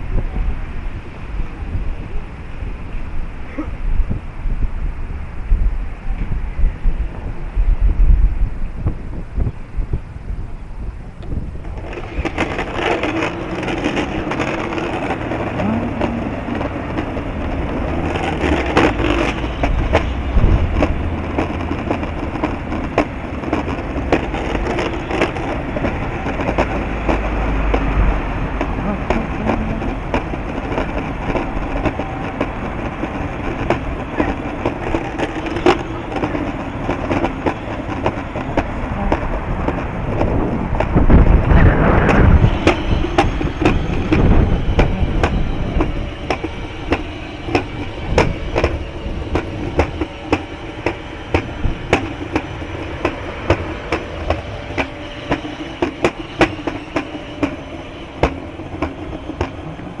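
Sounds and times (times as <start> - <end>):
rolling rumble: 0.0 - 60.0
wind buffeting microphone: 0.0 - 60.0.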